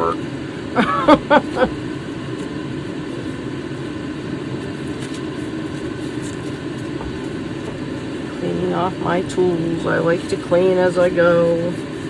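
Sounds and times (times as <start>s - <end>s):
steady background drone: 0.0s - 12.0s.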